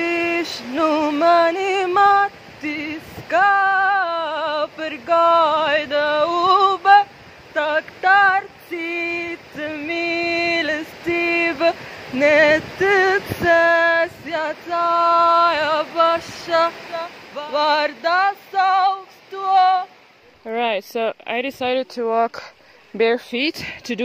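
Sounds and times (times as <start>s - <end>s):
woman singing unaccompanied: 0.0s - 24.0s.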